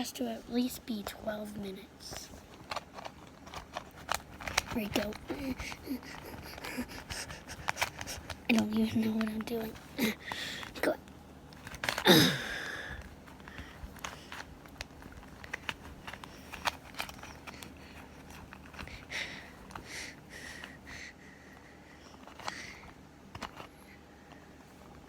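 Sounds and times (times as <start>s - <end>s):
puzzle cube clicks and scrapes: 2.0s - 11.0s, 11.6s - 12.2s, 12.9s - 21.0s, 22.0s - 25.0s.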